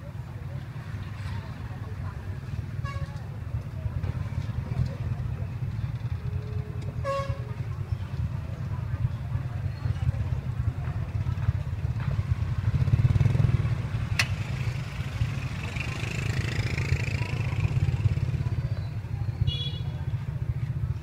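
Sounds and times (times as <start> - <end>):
motorbike traffic rumble: 0.0 - 21.0.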